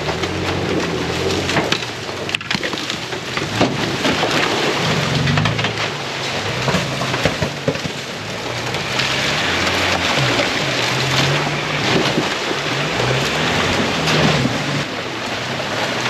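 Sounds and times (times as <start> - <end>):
engine rumbling low: 0.0 - 16.0
tyres crackling over branches: 0.0 - 16.0.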